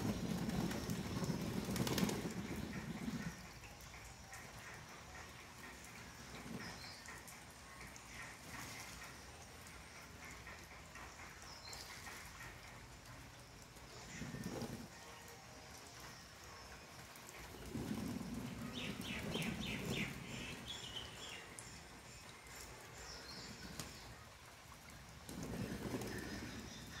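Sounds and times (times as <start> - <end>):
pigeons splashing water: 0.0 - 27.0.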